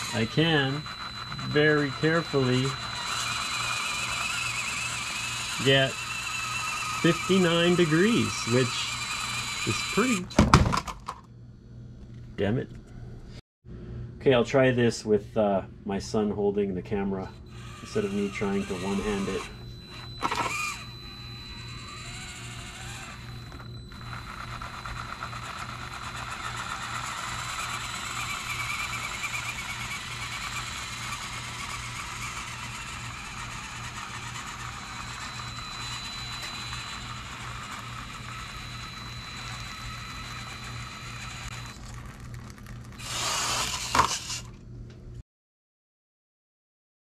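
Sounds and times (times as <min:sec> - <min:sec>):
small electric motor whirring: 0:00.0 - 0:10.5, 0:17.2 - 0:44.6.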